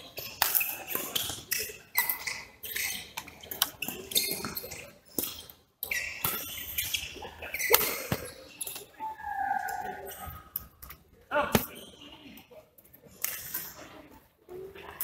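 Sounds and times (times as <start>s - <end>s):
shoes squeaking on court: 0.0s - 14.1s.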